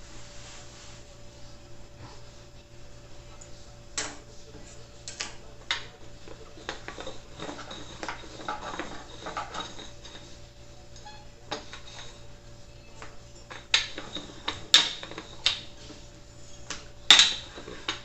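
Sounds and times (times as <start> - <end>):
faint steady hum: 0.0 - 18.0
dishes and utensils clinking: 3.3 - 18.0.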